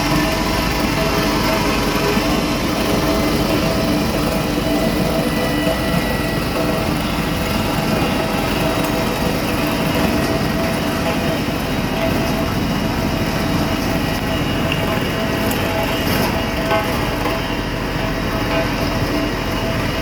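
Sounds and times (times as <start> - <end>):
road roller engine running: 0.0 - 20.0
steady machine tones: 0.0 - 20.0.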